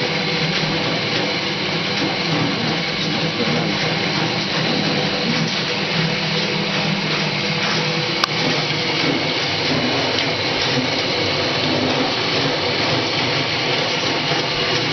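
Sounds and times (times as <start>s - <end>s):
washing machine whirring: 0.0s - 14.9s.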